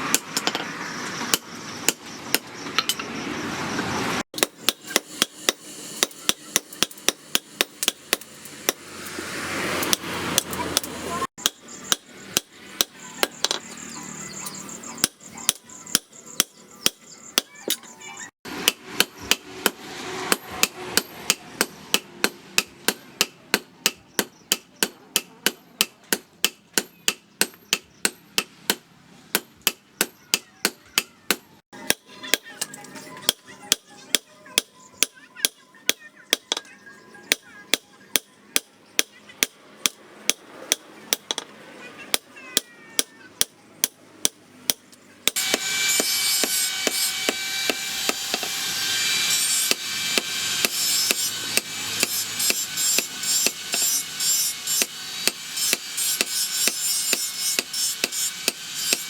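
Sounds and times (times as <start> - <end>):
hammer striking steel on anvil: 4.4 - 9.1, 9.8 - 13.7, 18.5 - 36.7, 37.3 - 41.5, 42.1 - 59.0.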